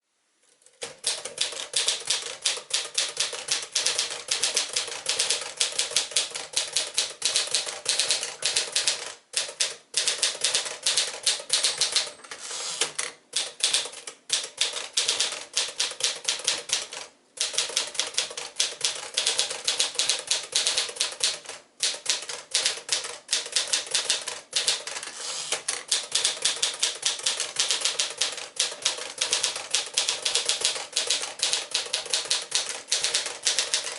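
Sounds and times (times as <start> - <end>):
typewriter keystroke clacks: 0.7 - 33.9.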